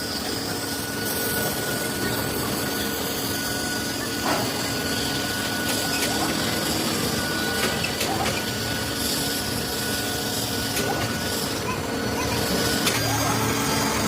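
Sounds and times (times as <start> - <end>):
metalworking machine whining: 0.0 - 14.0.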